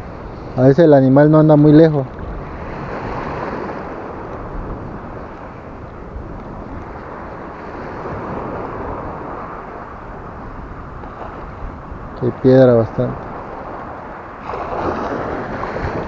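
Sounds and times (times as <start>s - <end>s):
shallow sea water: 0.0s - 16.0s
wind on microphone: 0.0s - 16.0s.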